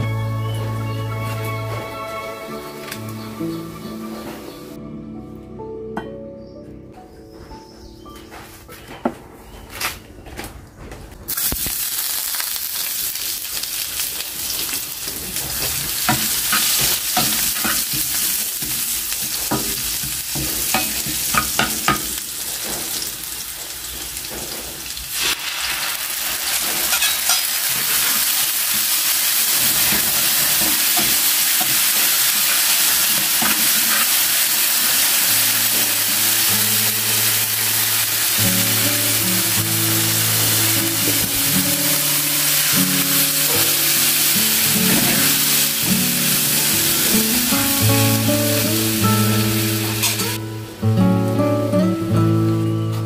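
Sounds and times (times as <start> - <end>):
onions sizzling in oil: 0.0 - 4.6, 11.3 - 53.0.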